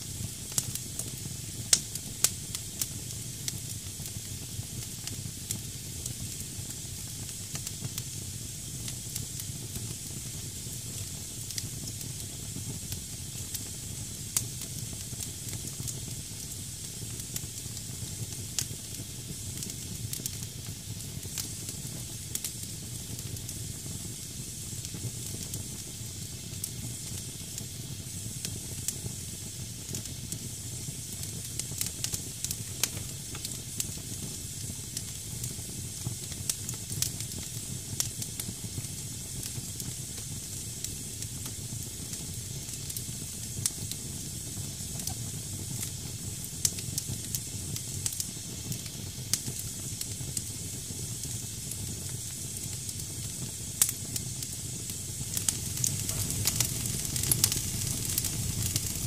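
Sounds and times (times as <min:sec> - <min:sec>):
fire crackles and pops: 0:00.0 - 0:59.0
firewood hissing in fireplace: 0:00.0 - 0:59.0.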